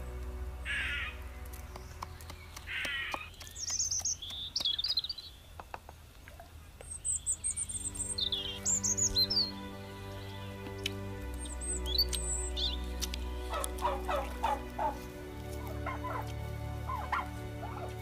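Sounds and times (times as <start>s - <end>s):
soft music of sustained notes: 0.0s - 4.5s, 6.8s - 18.0s
birds chirping: 0.0s - 18.0s.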